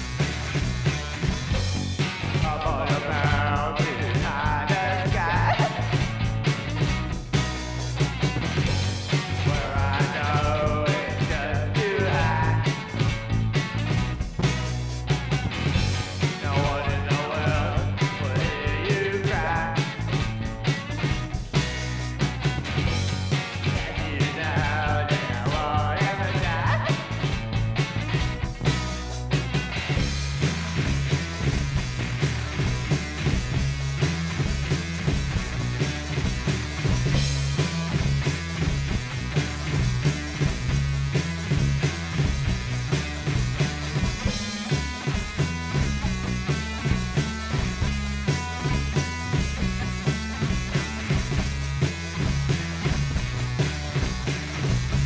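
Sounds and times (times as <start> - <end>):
distorted electric guitar: 0.0 - 55.0
drum kit: 0.0 - 55.0
electric bass: 0.0 - 55.0.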